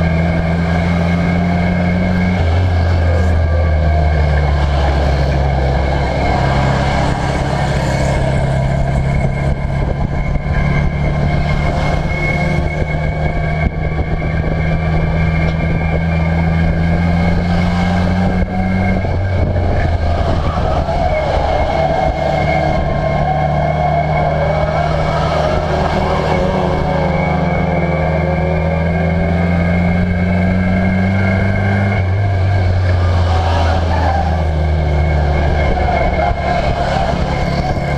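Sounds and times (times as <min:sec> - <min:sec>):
race car engine running hard: 0:00.0 - 0:37.9.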